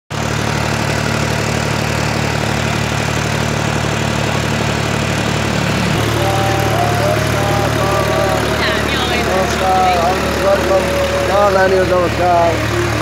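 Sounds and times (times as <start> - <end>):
engine idling: 0.1 - 13.0.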